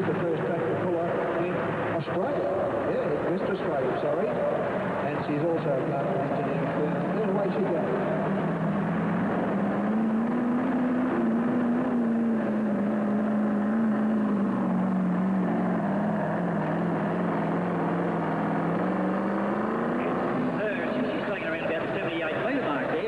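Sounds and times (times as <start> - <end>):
tractor engine droning under load: 0.0 - 23.0.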